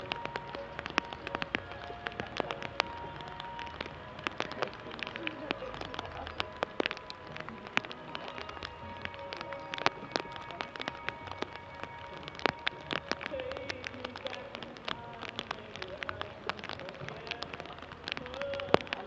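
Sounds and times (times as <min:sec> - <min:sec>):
faint music with held notes: 0:00.0 - 0:19.0
rain drops clicking: 0:00.0 - 0:19.0
rain falling: 0:00.0 - 0:19.0.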